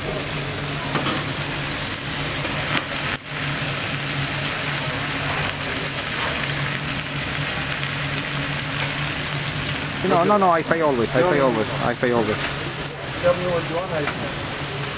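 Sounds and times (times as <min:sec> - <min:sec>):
low mechanical hum: 0:00.0 - 0:14.9.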